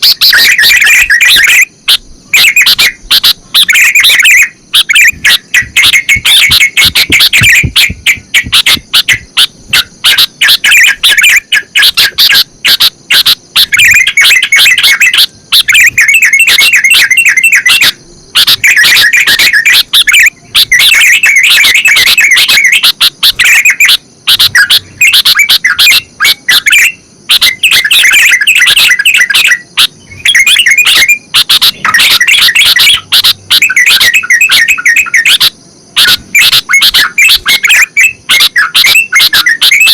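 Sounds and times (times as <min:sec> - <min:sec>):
bulbuls singing: 0:00.0 - 0:39.9.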